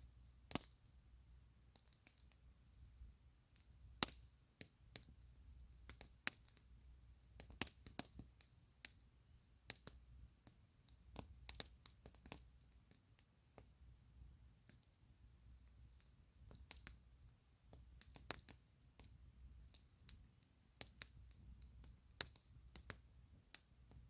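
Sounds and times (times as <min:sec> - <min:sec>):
campfire wood crackling: 0:00.0 - 0:24.0.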